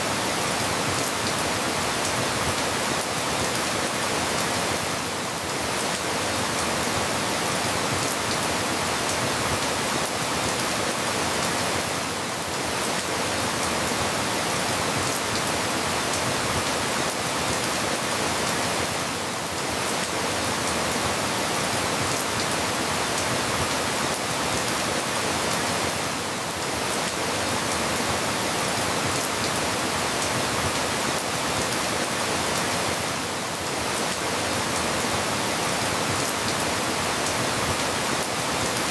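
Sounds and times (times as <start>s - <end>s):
dense rainfall hiss: 0.0s - 38.9s.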